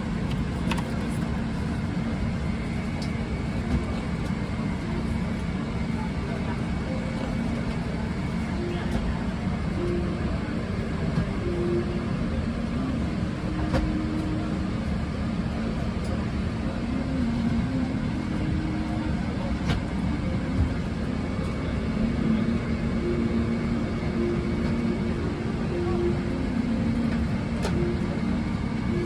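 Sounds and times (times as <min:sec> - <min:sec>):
airplane cabin rumble: 0:00.0 - 0:29.0
faint murmuring voices: 0:00.0 - 0:29.0.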